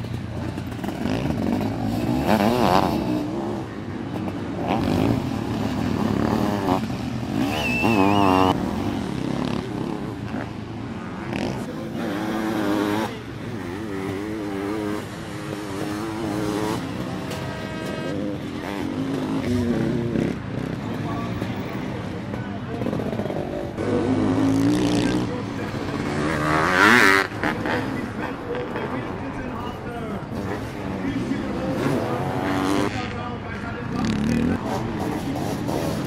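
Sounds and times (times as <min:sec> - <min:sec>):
motocross engines revving past: 0:00.0 - 0:36.0.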